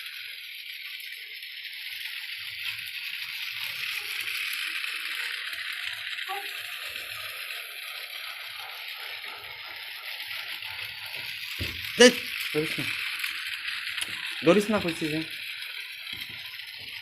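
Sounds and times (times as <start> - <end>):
toy train motor whirring: 0.0 - 17.0
wheels rattling on track: 0.0 - 17.0.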